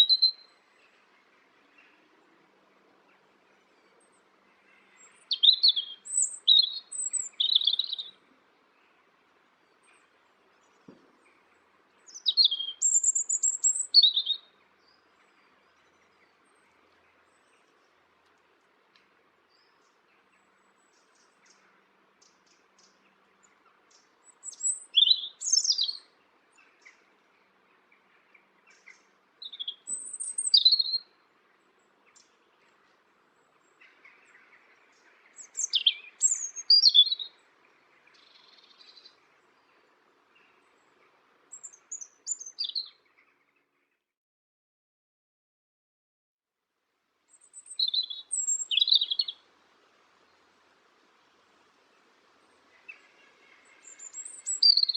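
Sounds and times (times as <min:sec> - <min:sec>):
songbird singing gliding notes: 0:00.0 - 0:44.0, 0:47.3 - 0:54.9.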